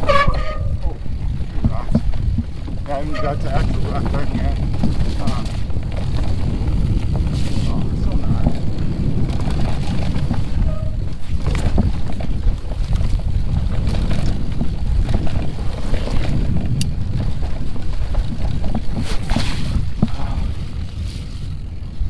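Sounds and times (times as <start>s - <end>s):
bike clicks and knocks: 0.0s - 22.0s
wind rumbling on microphone: 0.0s - 22.0s.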